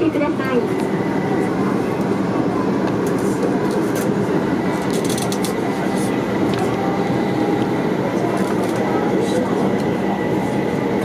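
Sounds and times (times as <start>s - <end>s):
tram wheels rumbling on rail: 0.0s - 11.0s.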